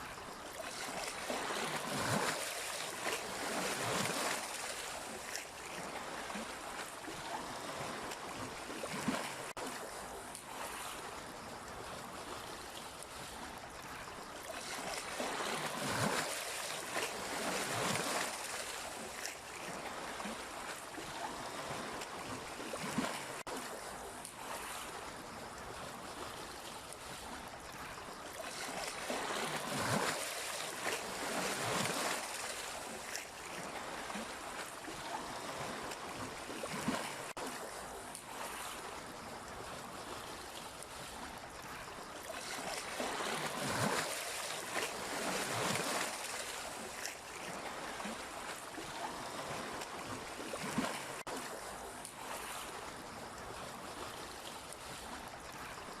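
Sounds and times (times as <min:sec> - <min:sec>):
sea waves breaking: 0:00.0 - 0:56.0.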